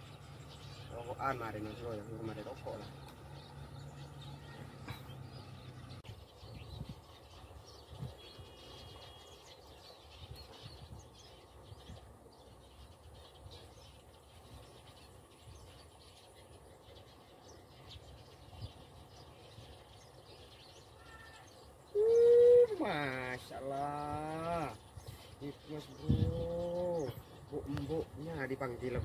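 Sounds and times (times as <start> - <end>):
faint birds chirping: 0.0 - 29.0.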